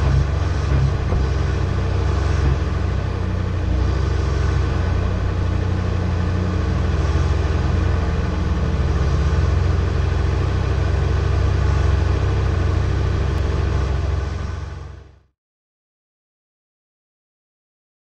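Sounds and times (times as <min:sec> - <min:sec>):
off-road vehicle engine running: 0:00.0 - 0:15.3.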